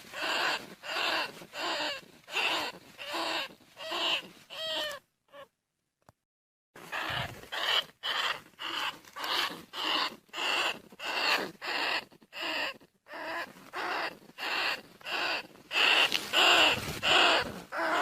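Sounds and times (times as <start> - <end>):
rat squealing: 0.0 - 5.5, 6.8 - 18.0.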